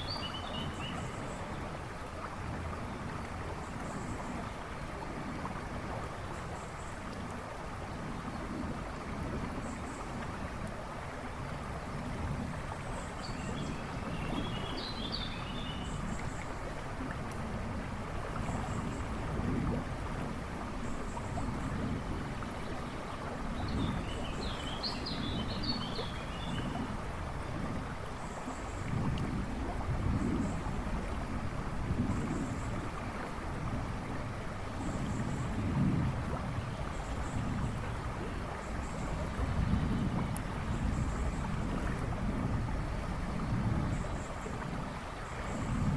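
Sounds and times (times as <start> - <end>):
river rushing and babbling: 0.0 - 45.9.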